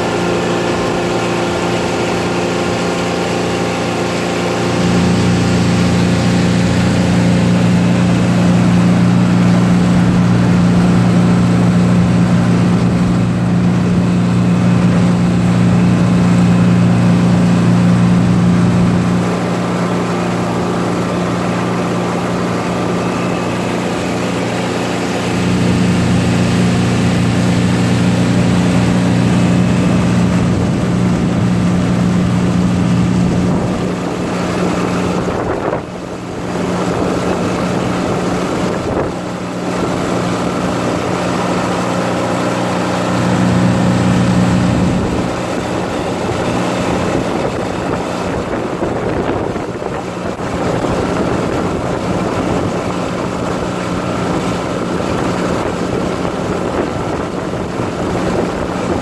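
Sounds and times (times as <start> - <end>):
boat engine humming: 0.0 - 59.0
water rushing from wake: 0.0 - 59.0.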